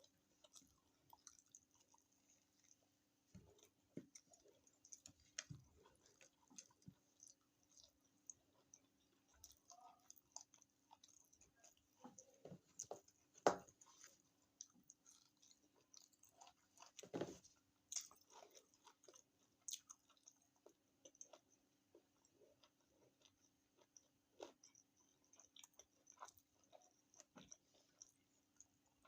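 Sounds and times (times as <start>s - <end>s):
person chewing and smacking: 0.0s - 29.0s.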